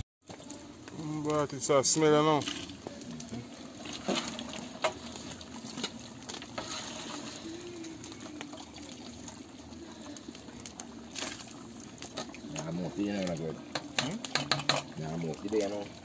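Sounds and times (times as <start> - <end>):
soup bubbling in pot: 0.2 - 16.0.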